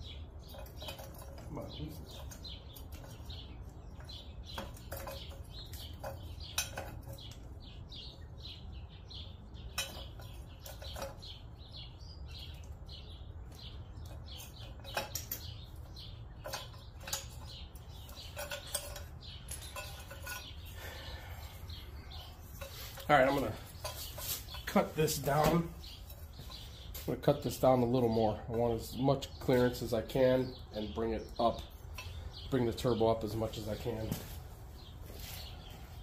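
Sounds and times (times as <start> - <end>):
high bird chirping: 0.0 - 36.0
metal pipes clinking: 0.4 - 7.7, 9.7 - 11.4, 13.5 - 30.4, 31.4 - 34.4.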